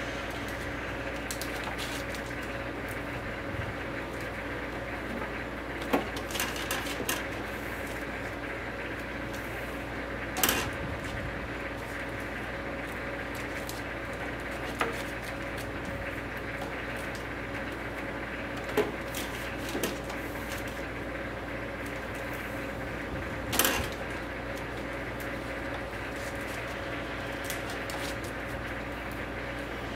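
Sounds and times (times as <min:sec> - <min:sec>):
machine hum: 0:00.0 - 0:29.9.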